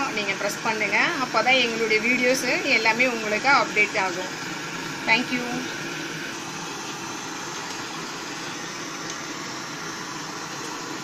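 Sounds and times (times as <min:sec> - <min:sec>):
room noise hiss: 0:01.2 - 0:11.0.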